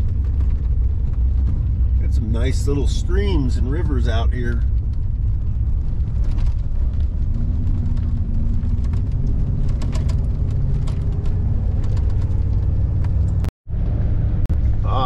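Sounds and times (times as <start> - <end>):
gravel ticks: 0.0 - 13.5
engine and tyres drone: 0.0 - 15.0.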